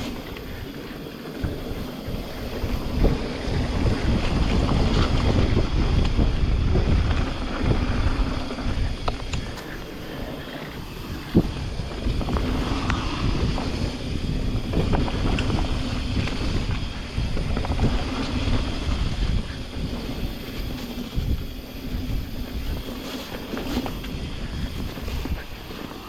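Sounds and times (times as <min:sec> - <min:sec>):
bike rattles and knocks: 0:00.0 - 0:26.0
wind buffeting microphone: 0:00.0 - 0:26.0.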